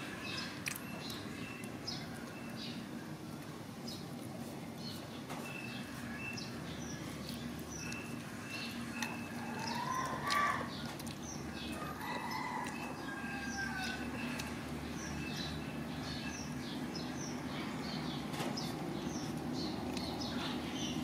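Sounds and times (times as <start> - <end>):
low background noise: 0.0 - 21.0
small birds chirping: 0.0 - 21.0.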